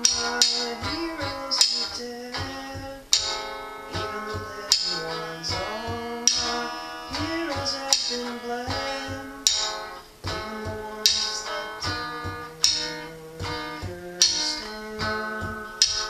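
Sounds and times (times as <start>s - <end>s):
drumsticks striking: 0.0s - 16.0s
electric guitar riff: 0.0s - 16.0s.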